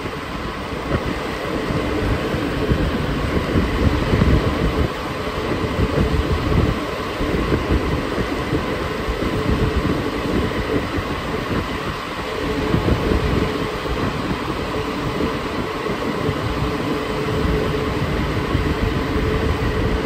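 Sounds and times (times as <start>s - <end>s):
faint steady whine: 0.0s - 20.0s
metro train rumbling in tunnel: 0.0s - 20.0s.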